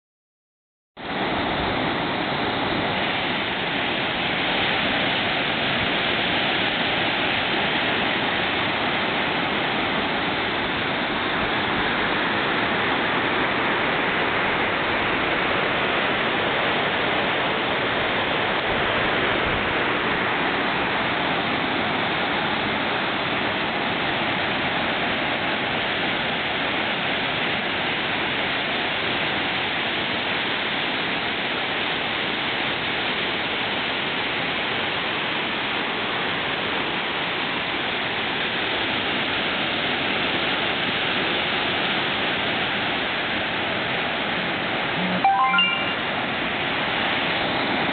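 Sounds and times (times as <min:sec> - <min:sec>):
rapids rushing over rocks: 0:01.0 - 0:47.9.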